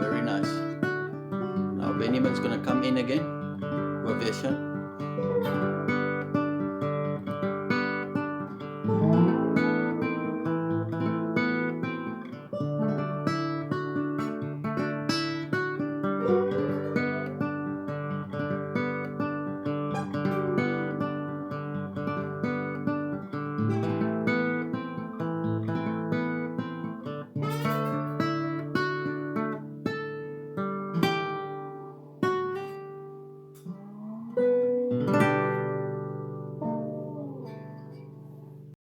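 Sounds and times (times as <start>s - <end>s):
lead guitar bending notes: 0.0s - 29.1s, 33.6s - 38.4s
strummed acoustic guitar chords: 0.0s - 38.7s.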